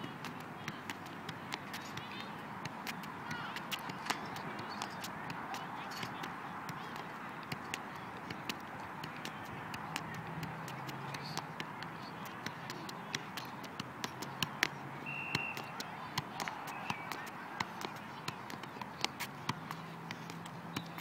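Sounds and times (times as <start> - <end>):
soccer ball taps: 0.0 - 21.0.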